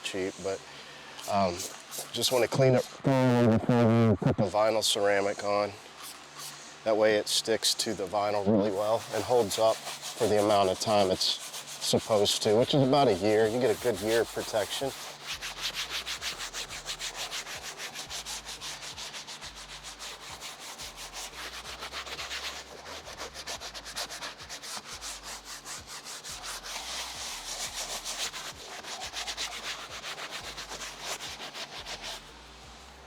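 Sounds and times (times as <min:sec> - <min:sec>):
brush scrubbing vinyl upholstery: 0:00.0 - 0:33.0.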